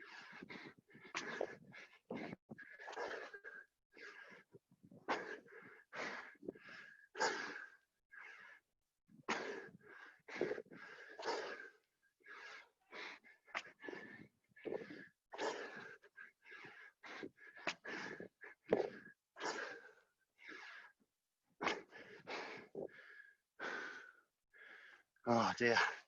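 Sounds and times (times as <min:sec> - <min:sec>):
heavy rapid breathing: 0:00.0 - 0:21.0, 0:21.6 - 0:26.0.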